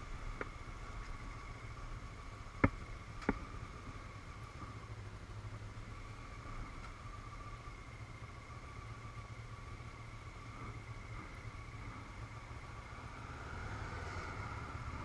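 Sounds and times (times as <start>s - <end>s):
muffled motorcycle engine running: 0.0s - 15.0s.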